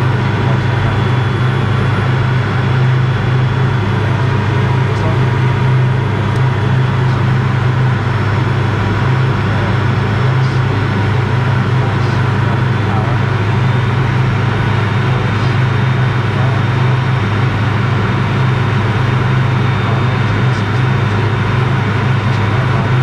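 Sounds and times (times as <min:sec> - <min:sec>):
low turbofan drone: 0:00.0 - 0:23.0.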